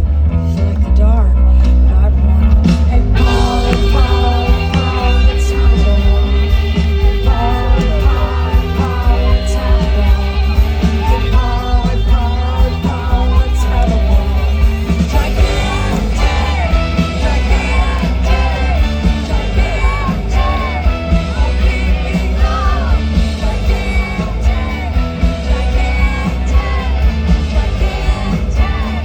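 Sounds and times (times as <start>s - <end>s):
person singing: 0.4s - 29.0s
live rock band with horns: 1.9s - 29.0s.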